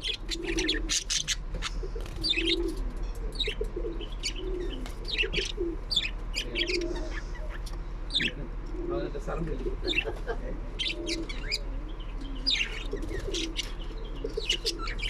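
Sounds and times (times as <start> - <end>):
high bird chirps: 0.0 - 8.4, 10.8 - 15.0
low bird coos: 0.0 - 15.0
low electrical hum: 0.0 - 15.0.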